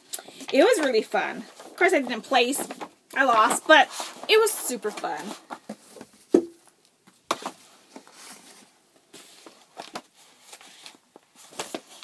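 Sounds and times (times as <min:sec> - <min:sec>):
items being handled: 0:00.0 - 0:12.0.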